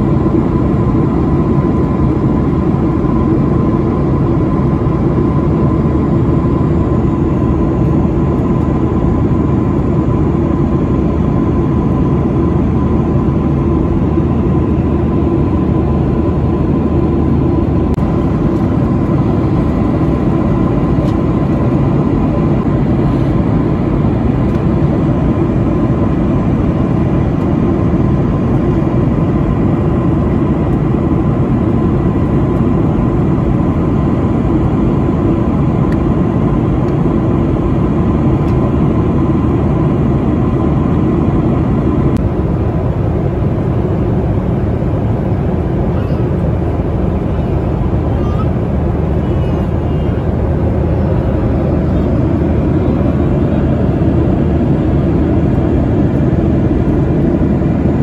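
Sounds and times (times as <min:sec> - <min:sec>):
thin steady whine: 0:00.0 - 0:58.0.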